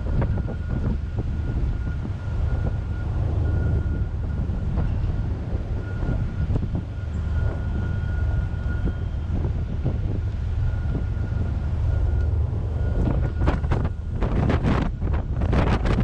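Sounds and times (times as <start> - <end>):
faint steady whine: 0.0 - 16.0
ferry engine low rumble: 0.0 - 16.0
strong wind: 0.0 - 16.0.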